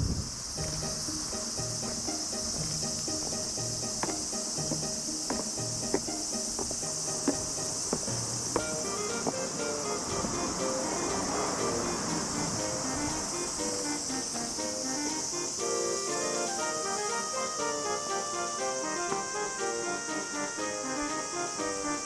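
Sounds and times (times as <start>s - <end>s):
insects trilling: 0.0s - 22.0s
quiet background music: 0.5s - 22.0s.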